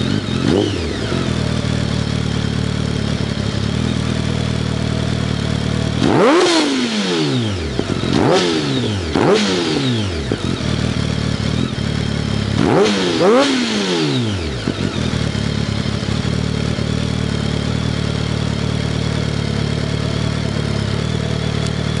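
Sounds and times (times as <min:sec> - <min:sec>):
motorcycle engine idling: 0:00.0 - 0:22.0
motorcycle throttle blips: 0:00.0 - 0:22.0.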